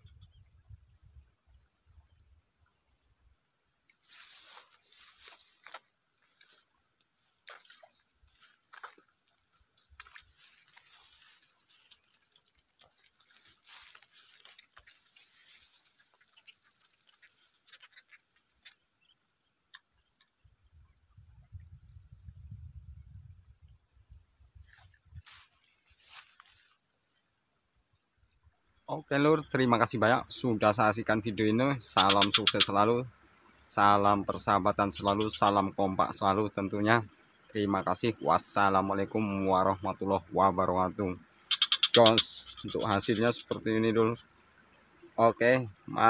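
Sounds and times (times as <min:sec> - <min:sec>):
insects chirping drone: 0:00.0 - 0:46.0
pulsing insect call: 0:00.0 - 0:46.0.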